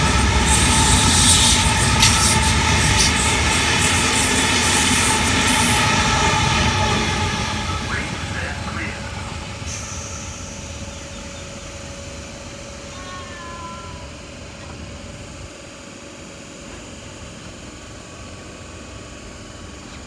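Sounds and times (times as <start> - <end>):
electric train rumble: 0.0 - 20.0
stationary train low hum: 0.0 - 20.0.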